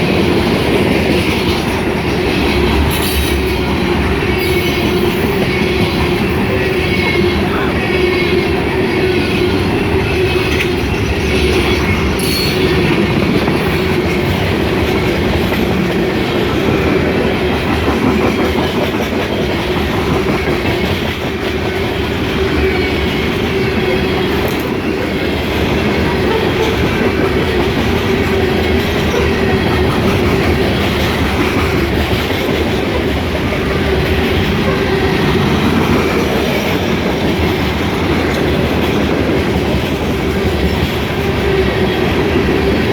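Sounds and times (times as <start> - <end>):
steel train wheels rumbling on rails: 0.0 - 42.9.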